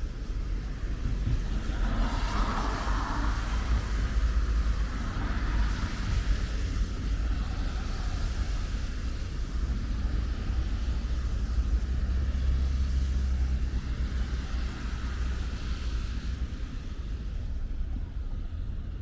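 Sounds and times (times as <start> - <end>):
low rumble: 0.0 - 19.0
light rain falling: 0.4 - 17.6.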